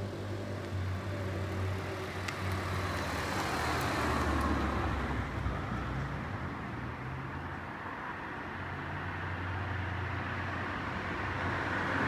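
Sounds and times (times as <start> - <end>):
car passing by: 0.0 - 7.3, 8.6 - 12.0.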